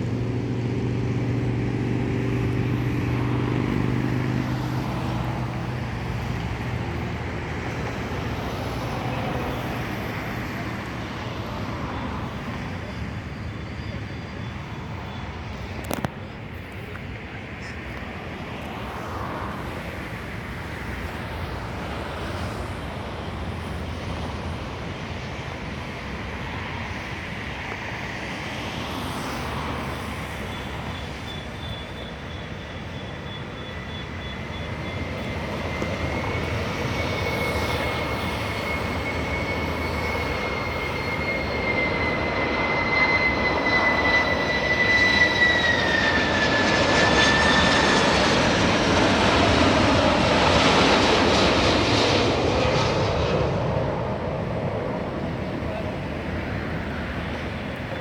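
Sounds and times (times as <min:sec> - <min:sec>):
high engine whine: 0:00.0 - 0:58.0
jet engines roaring: 0:00.0 - 0:58.0.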